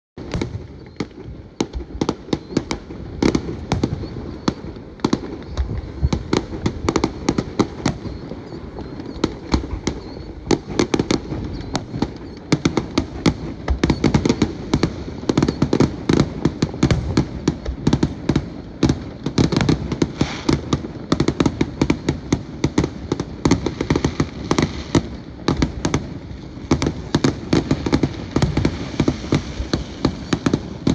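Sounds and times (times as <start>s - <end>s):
fireworks bangs and crackles: 0.2s - 30.9s.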